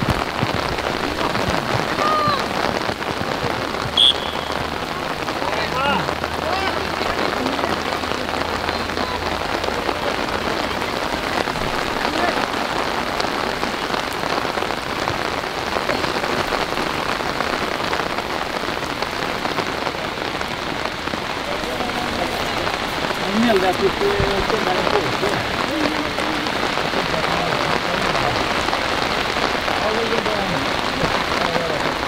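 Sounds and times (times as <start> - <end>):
rain falling on a surface: 0.0 - 32.0.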